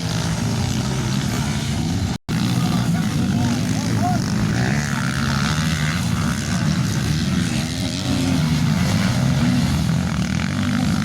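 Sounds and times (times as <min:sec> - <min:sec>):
dirt bike engines: 0:00.0 - 0:11.0.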